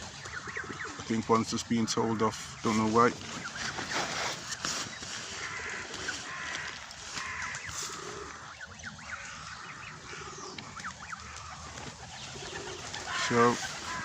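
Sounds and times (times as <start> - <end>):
goslings peeping: 0.0 - 14.0
pigeons cooing: 0.0 - 14.0.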